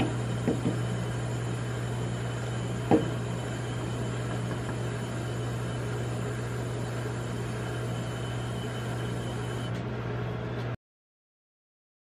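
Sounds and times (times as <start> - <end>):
refrigeration compressor humming: 0.0 - 10.6.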